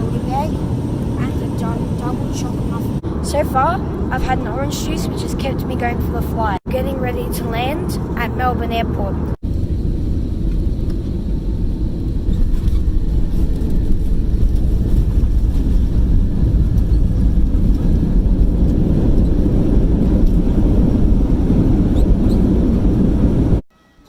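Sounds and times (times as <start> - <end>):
airplane cabin engine rumble: 0.0 - 23.6.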